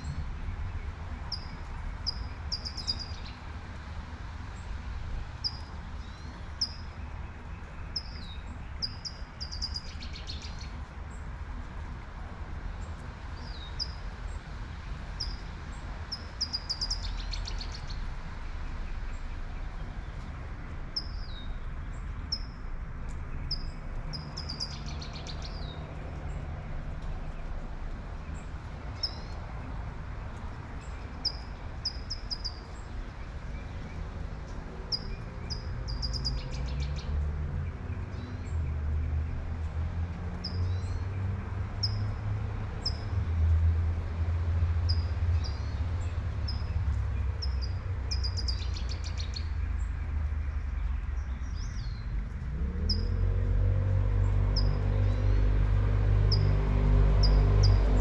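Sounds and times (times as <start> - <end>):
songbird chirping: 0.0 - 3.4, 5.4 - 11.2, 12.8 - 39.5, 44.8 - 58.0
vehicle rumble: 0.0 - 58.0.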